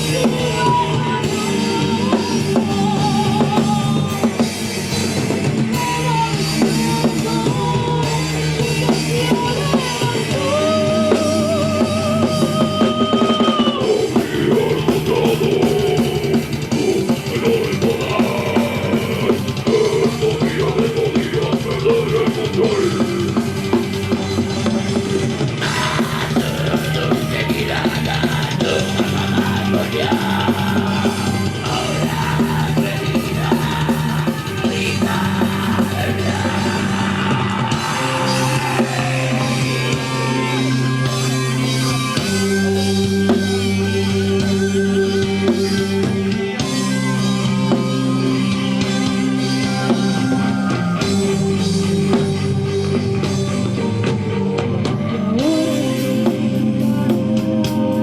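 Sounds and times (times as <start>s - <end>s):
bass: 0.0s - 58.0s
drum kit: 0.0s - 58.0s.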